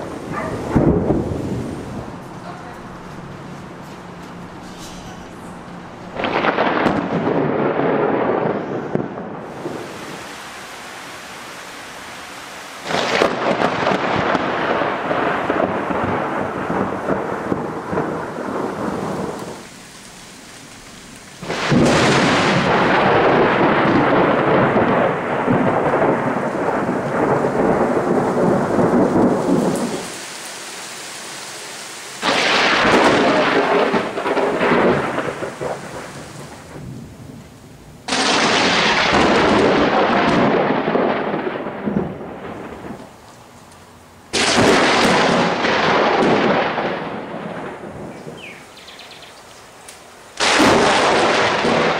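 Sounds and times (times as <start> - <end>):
thunder cracks and rumbling: 0.0 - 3.5, 4.5 - 10.3, 12.8 - 19.7, 21.4 - 30.2, 32.2 - 43.1, 44.3 - 48.5, 50.4 - 51.9
steady rain: 0.0 - 51.9.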